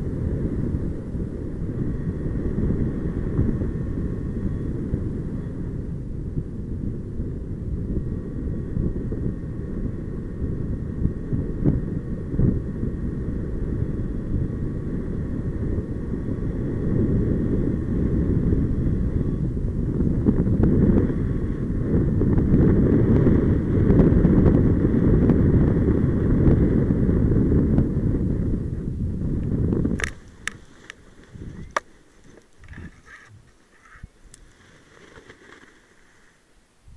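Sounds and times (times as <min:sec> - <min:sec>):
wind buffeting microphone: 0:00.0 - 0:36.2.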